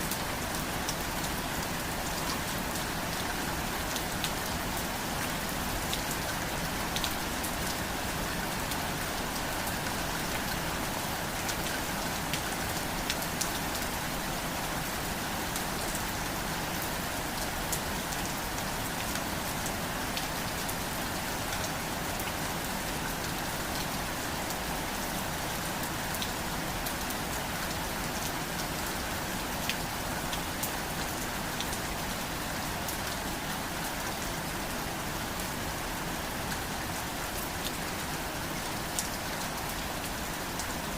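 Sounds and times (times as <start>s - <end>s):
steady rain falling: 0.0s - 40.9s
raindrops ticking on a surface: 0.1s - 40.9s.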